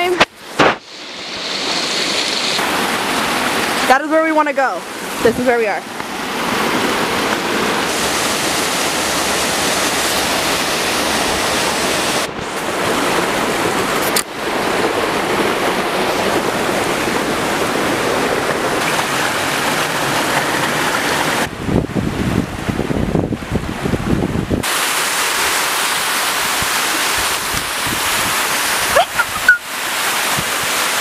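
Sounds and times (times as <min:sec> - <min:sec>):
creek water rushing over rocks: 0:00.0 - 0:21.7, 0:24.5 - 0:31.0.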